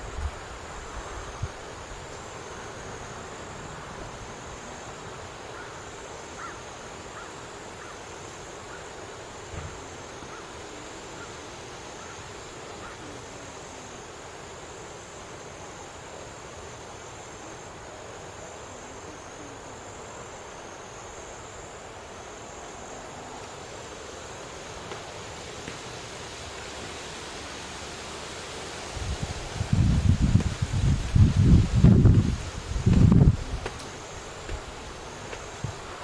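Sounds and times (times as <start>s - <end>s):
wind hiss: 0.0s - 36.0s.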